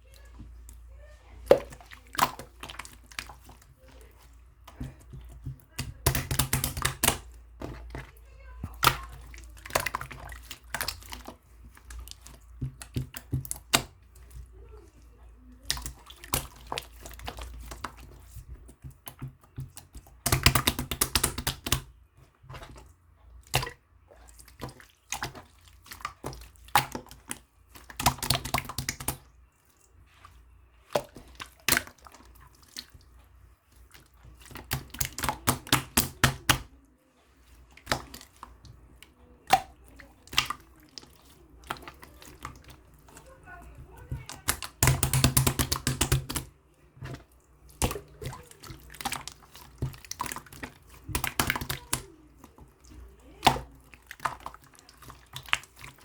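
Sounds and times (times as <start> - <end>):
hands squishing slime: 0.0 - 56.0.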